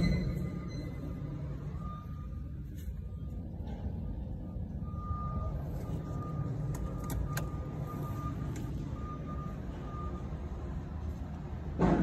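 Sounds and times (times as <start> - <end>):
diesel generator engine running: 0.0 - 12.0.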